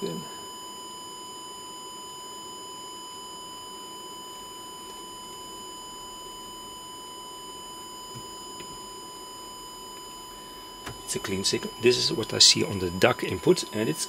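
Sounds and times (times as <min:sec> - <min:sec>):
sine test tone: 0:00.0 - 0:14.0.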